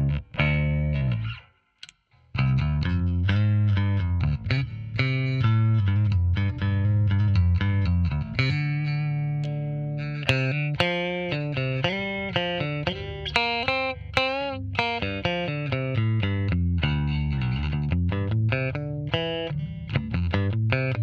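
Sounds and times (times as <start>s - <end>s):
clean baritone bass guitar melody: 0.0s - 1.4s, 2.3s - 21.0s.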